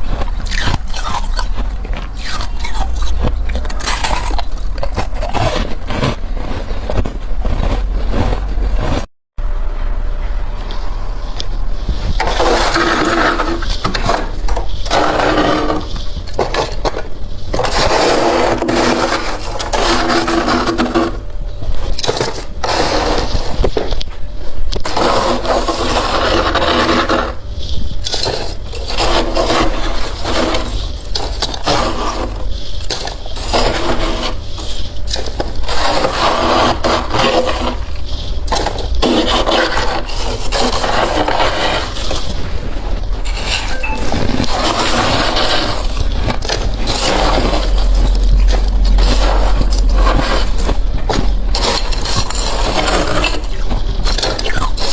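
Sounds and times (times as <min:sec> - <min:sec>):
frost crunching and scraping: 0:00.0 - 0:09.1, 0:10.5 - 0:54.9.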